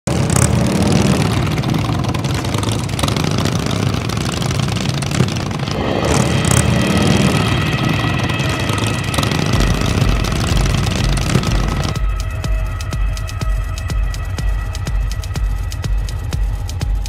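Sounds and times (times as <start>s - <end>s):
motorcycle engines passing: 0.0s - 17.0s.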